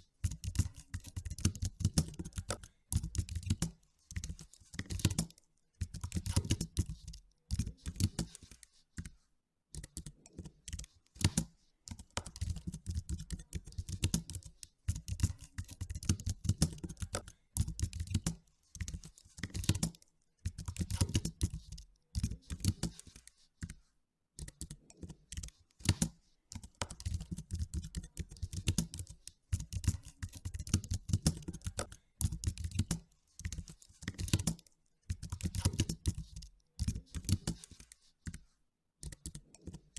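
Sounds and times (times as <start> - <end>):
computer keyboard typing: 0.2 - 23.8, 24.4 - 39.9.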